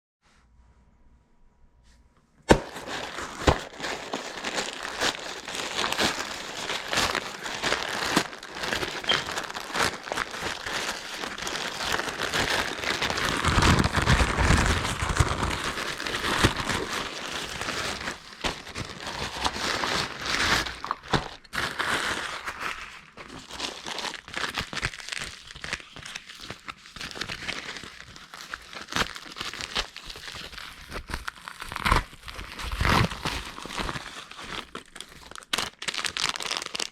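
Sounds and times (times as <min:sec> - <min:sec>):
packaging crumpling and tearing: 0:02.5 - 0:36.9.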